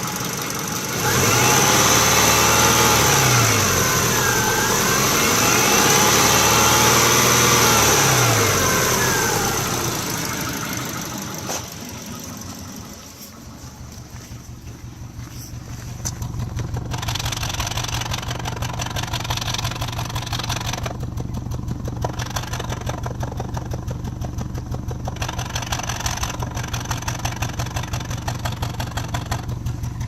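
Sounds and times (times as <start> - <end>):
engine idling roughly: 0.0 - 30.0.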